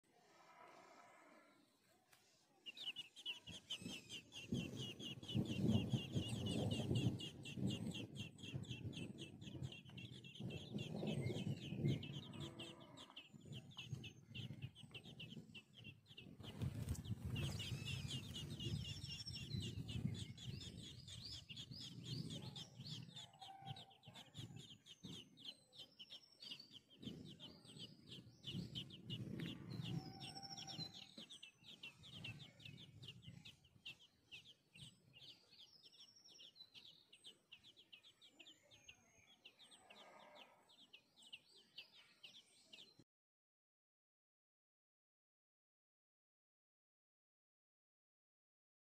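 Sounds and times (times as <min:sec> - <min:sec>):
nestlings chirping: 0:02.2 - 0:42.9.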